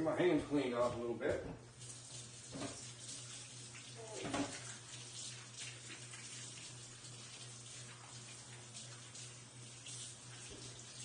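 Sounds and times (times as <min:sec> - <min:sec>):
water running from a faucet: 0:01.7 - 0:11.0.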